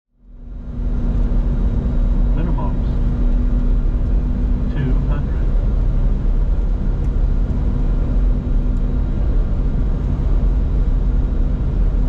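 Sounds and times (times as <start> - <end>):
roar of airflow and engines: 0.1 - 12.0
jet cockpit rumble: 0.2 - 12.0
low steady hum: 0.2 - 12.0.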